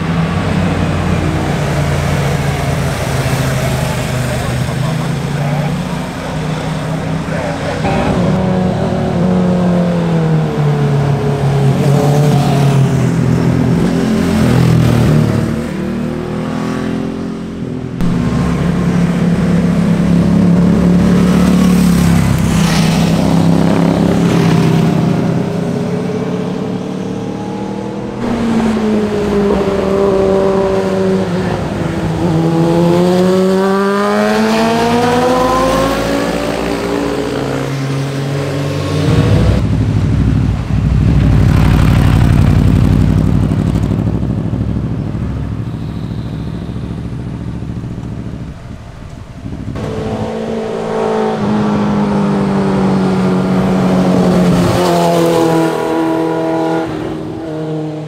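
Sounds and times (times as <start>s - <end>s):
motorcycle engines revving past: 0.0s - 58.0s.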